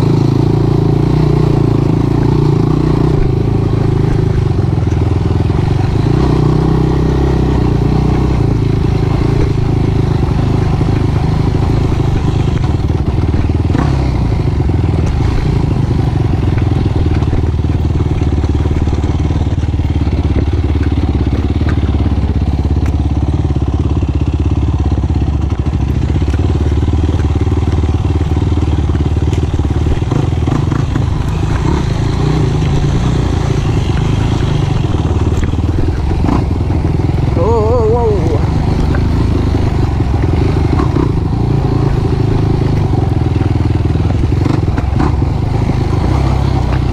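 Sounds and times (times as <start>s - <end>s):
quad engine running: 0.0s - 46.9s.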